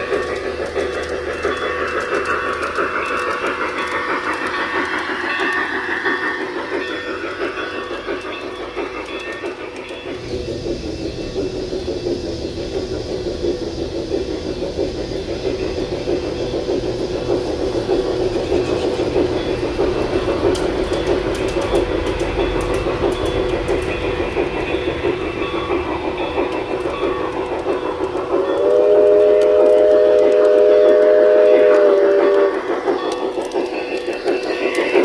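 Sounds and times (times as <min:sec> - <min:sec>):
model locomotive hum: 0:00.0 - 0:35.0
wheels clicking on rails: 0:00.0 - 0:35.0.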